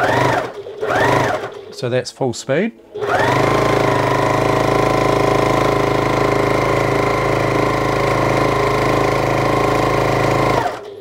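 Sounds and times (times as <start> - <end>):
sewing machine stitching: 0.0 - 1.9, 2.9 - 11.0.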